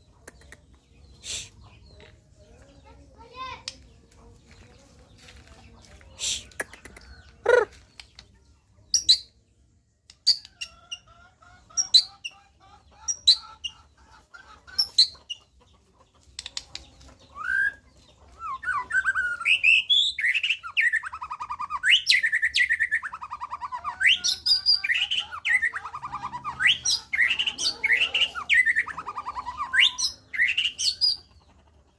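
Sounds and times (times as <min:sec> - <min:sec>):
bird song: 0:00.0 - 0:31.9.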